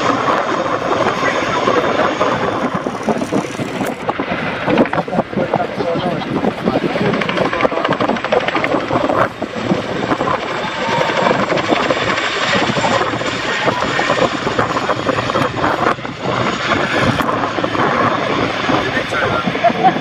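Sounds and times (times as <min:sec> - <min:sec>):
helicopter rotors beating: 0:00.0 - 0:20.0.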